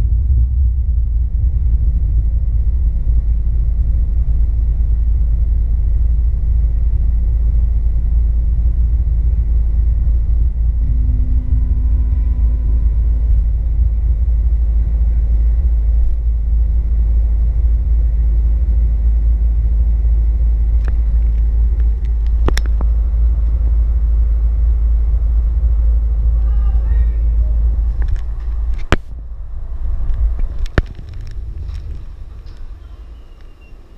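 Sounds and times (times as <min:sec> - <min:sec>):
traffic rumble: 0:00.0 - 0:33.9.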